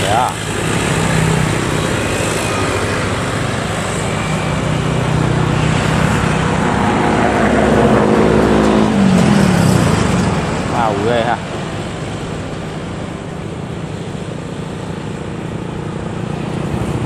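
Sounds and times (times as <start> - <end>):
boat engine running: 0.0 - 17.0
rush of boat wake: 0.0 - 17.0.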